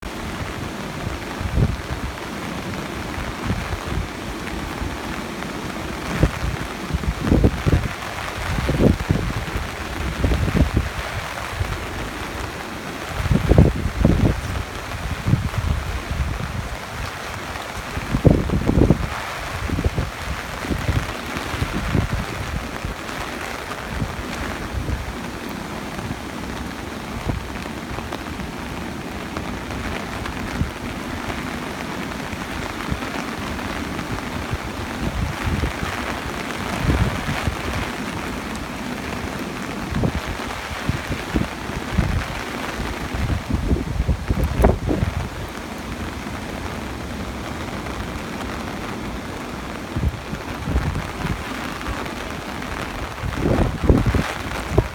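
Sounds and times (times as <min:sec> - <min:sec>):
heavy rain: 0:00.0 - 0:54.9
wind rumbling on microphone: 0:00.0 - 0:54.9.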